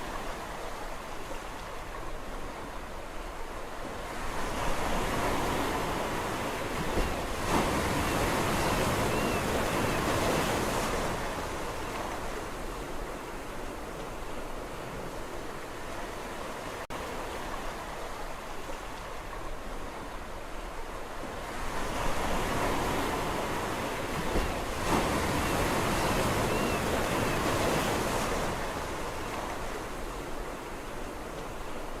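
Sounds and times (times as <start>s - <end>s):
sea waves washing on shore: 0.0s - 32.0s.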